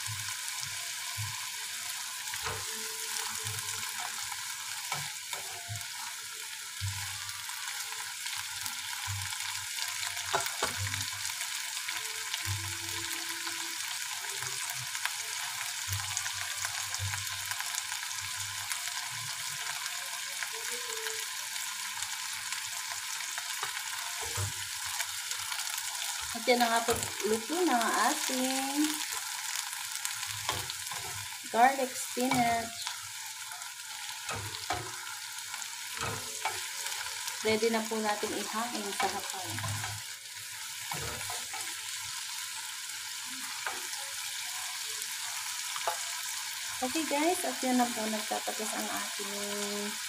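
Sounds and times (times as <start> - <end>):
spinach sizzling in a frying pan: 0.0 - 50.0.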